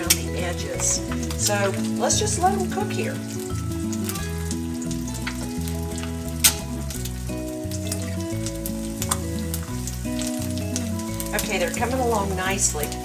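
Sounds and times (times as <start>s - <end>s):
background music: 0.0s - 13.0s
eggs sizzling and popping: 0.0s - 13.0s.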